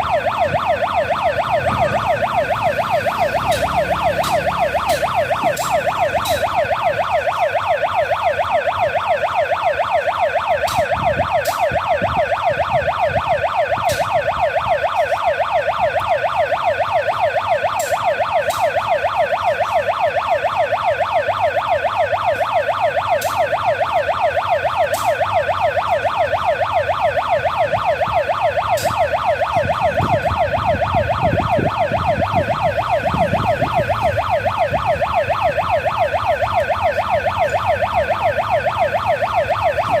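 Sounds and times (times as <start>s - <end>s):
level crossing warbling siren: 0.0s - 40.0s.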